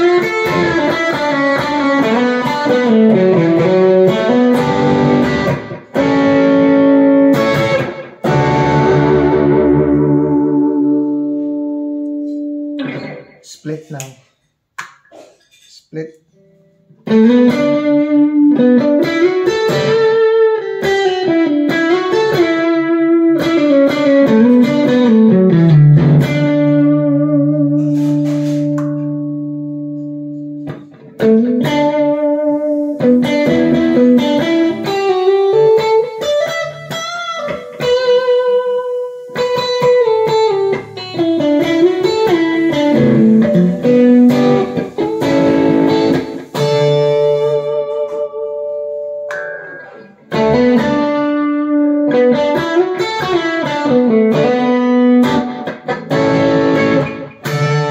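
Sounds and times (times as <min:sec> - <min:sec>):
electric guitar lead line: 0:00.0 - 0:13.6, 0:16.4 - 0:57.9.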